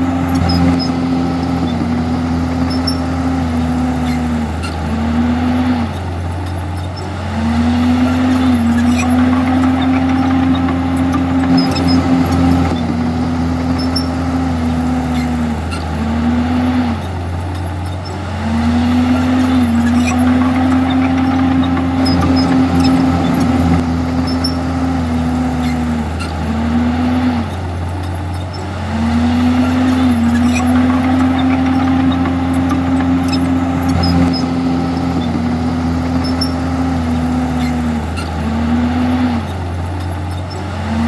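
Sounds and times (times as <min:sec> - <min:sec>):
bulldozer diesel engine under load: 0:00.0 - 0:41.0.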